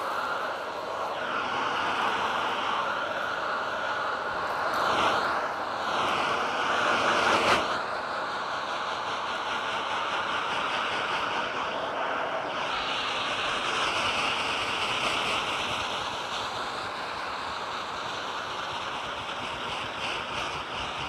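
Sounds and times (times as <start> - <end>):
vacuum cleaner sucking on rug: 0.0 - 21.0.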